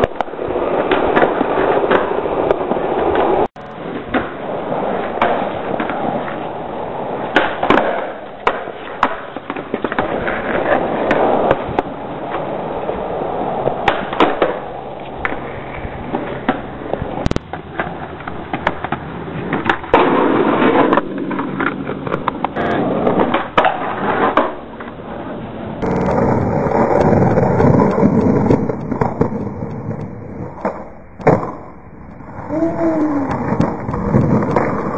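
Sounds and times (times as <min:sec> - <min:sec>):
skateboard clacking on ground: 0:00.0 - 0:34.9
skateboard wheels rolling on concrete: 0:00.0 - 0:34.9.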